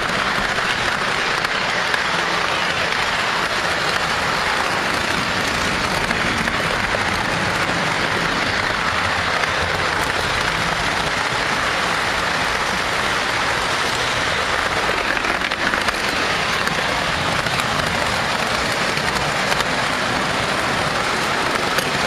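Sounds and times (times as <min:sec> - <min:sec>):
toy train wheels rattling: 0:00.0 - 0:22.0.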